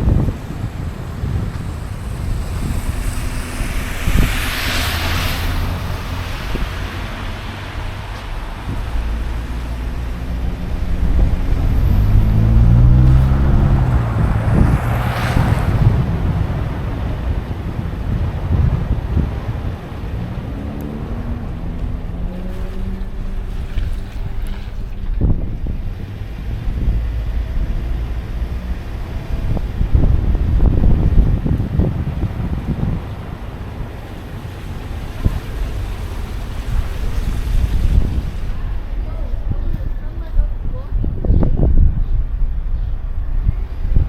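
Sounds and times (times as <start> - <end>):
steady low rumble: 0.0 - 44.0
vehicles passing with a hiss: 0.0 - 44.0.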